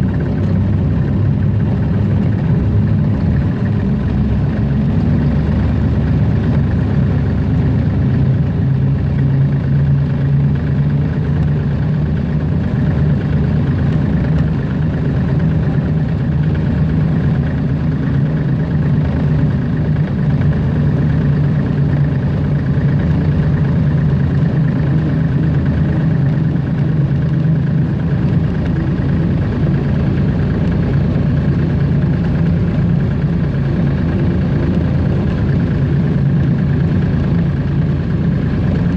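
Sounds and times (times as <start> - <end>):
diesel locomotive engine humming: 0.0 - 38.9.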